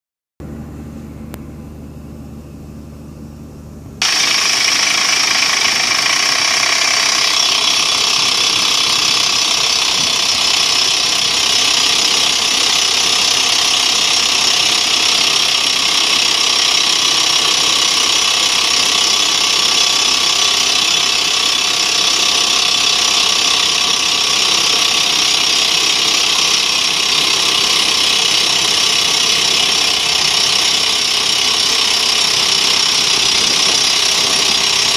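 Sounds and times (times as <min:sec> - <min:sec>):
drilling rig humming: 0:00.4 - 0:34.9
drill boring into rock: 0:04.0 - 0:34.9.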